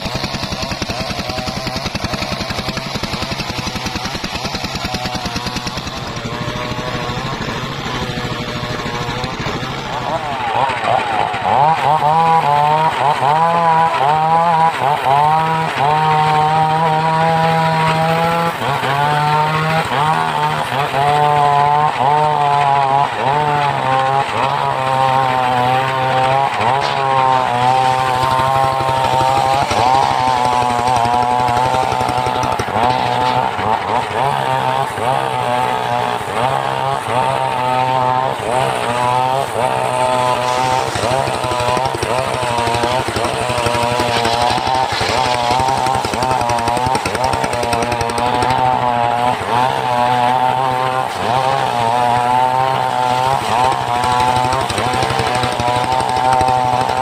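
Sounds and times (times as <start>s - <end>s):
engine running: 0.0s - 57.0s
saw blade whine: 0.0s - 57.0s.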